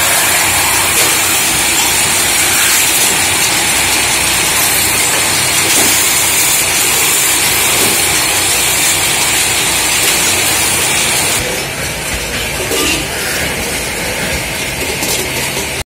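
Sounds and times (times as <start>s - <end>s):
lathes spinning metal pots: 0.0s - 15.8s.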